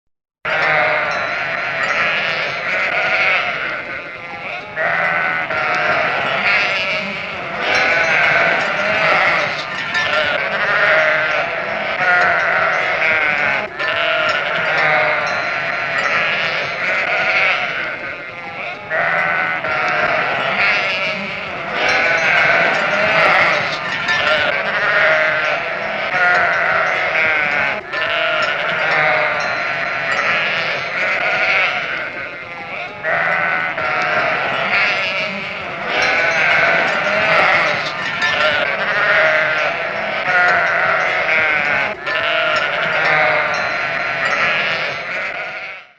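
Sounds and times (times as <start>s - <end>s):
sheep bleating: 0.5s - 45.9s.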